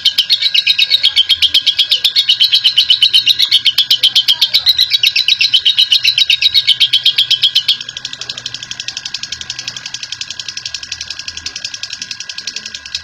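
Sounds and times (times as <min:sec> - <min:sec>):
bird chattering trill: 0:00.0 - 0:13.0.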